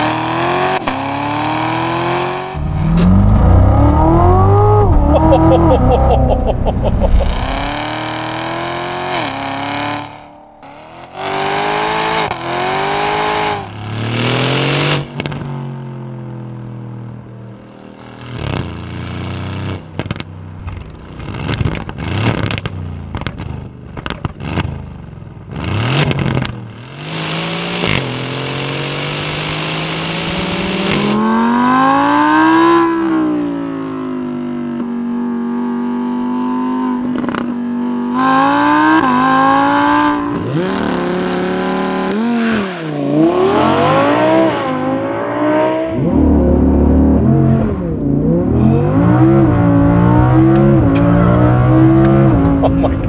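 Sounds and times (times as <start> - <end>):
sports car engine accelerating: 0.0 - 23.7, 25.6 - 53.0.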